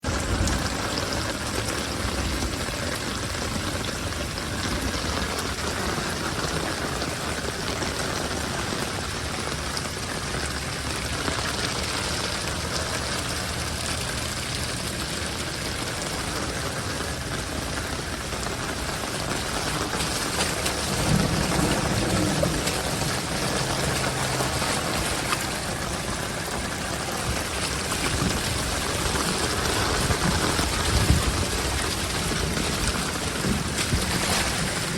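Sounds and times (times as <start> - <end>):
flowing floodwater: 0.0 - 34.9
steady rain falling: 0.0 - 34.9.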